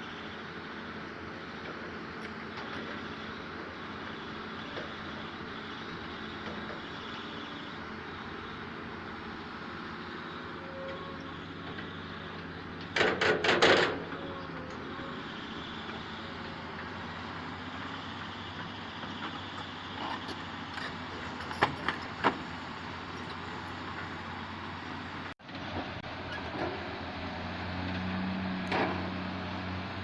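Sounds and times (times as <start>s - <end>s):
heavy diesel machinery running: 0.0s - 30.0s.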